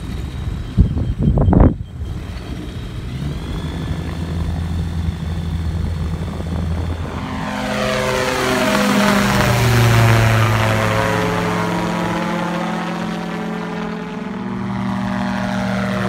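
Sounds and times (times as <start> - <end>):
gyroplane engine and propeller: 0.0 - 16.0.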